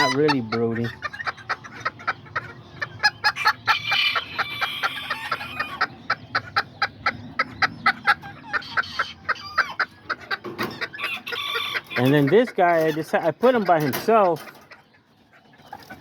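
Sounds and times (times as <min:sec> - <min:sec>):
chickens clucking: 0:00.0 - 0:16.0
drawn-out chicken call: 0:00.0 - 0:16.0.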